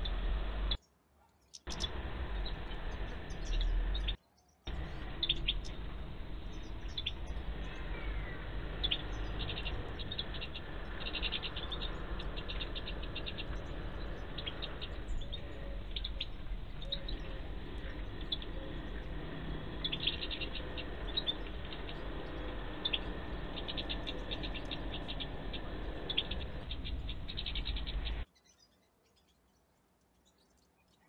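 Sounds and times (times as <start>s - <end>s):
low rumble: 0.0s - 0.8s, 1.7s - 28.3s
finches chirping: 1.4s - 31.0s.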